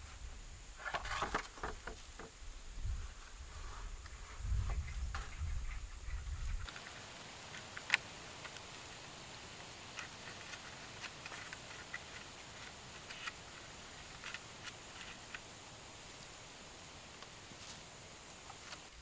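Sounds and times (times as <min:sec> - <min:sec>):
faint hiss: 0:00.0 - 0:19.0
clicks and scratches of bamboo: 0:00.8 - 0:02.3, 0:04.0 - 0:16.3, 0:17.2 - 0:19.0.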